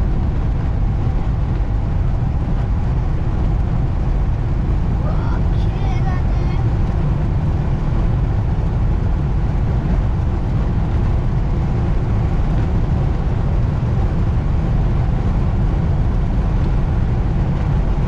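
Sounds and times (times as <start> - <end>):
road and engine rumble in car cabin: 0.0 - 18.0.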